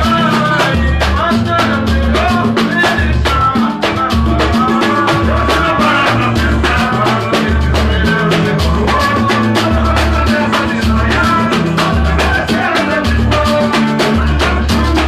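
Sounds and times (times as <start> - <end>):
band music: 0.0 - 15.0
bass line: 0.0 - 15.0
percussion beat: 0.0 - 15.0.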